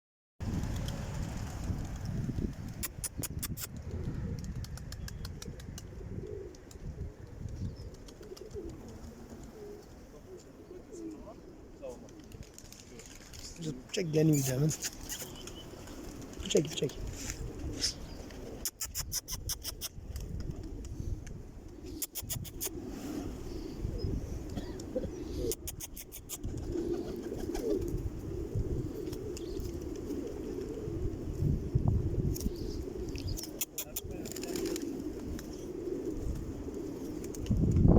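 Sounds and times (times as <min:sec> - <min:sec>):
pigeons cooing: 0:02.6 - 0:12.6, 0:14.2 - 0:37.6.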